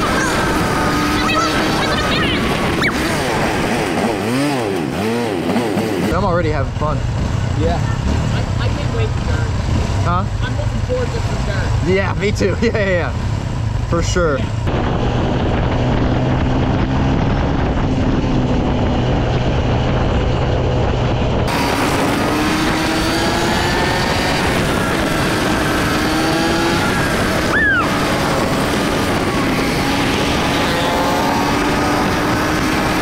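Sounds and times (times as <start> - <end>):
motorcycle engine running: 0.0 - 33.0
wind and road noise: 0.0 - 33.0.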